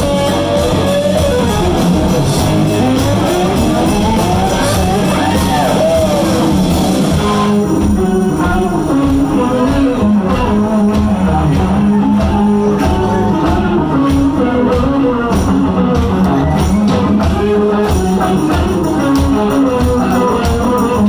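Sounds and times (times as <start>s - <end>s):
electric guitar riff: 0.0s - 21.0s
steady drum beat: 0.0s - 21.0s.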